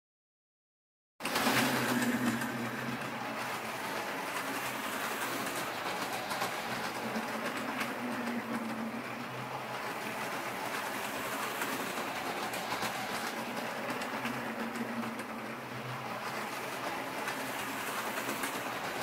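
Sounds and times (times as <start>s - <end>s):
toy train motor whirring: 1.2s - 19.0s
train wheels clattering on rails: 1.2s - 19.0s.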